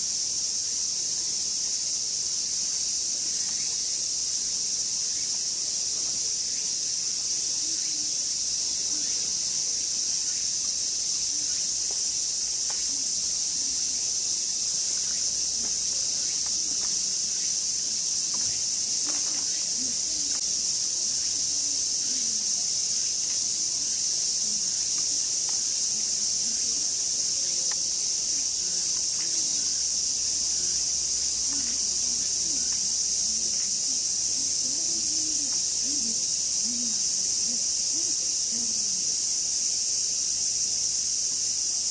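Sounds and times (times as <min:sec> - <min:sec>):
cicadas buzzing: 0:00.0 - 0:41.9.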